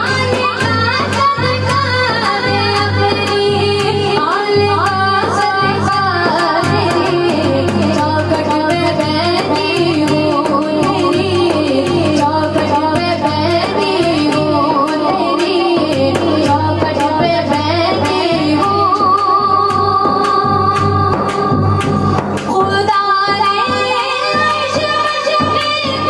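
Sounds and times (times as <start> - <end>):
steady percussion beat: 0.0 - 26.0
woman singing: 0.0 - 26.0.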